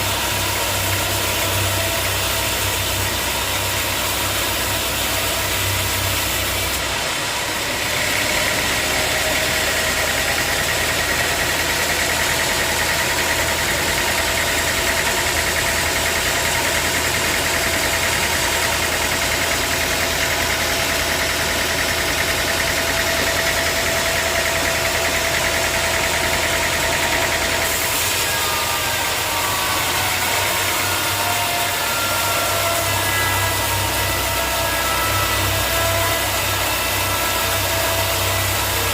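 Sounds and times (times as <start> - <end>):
band saw sawing a log: 0.0 - 38.9.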